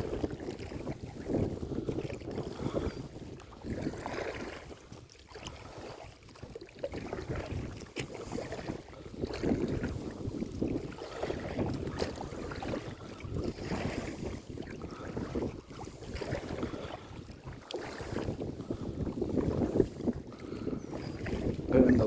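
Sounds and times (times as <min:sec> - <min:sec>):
water around boat: 0:00.0 - 0:22.0
wind buffeting microphone: 0:00.0 - 0:22.0.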